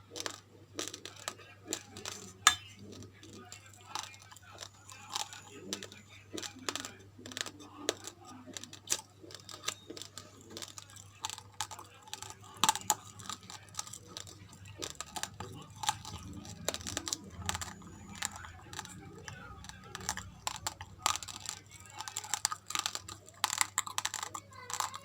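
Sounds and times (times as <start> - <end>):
chewing crunchy rice grains: 0.0 - 25.0.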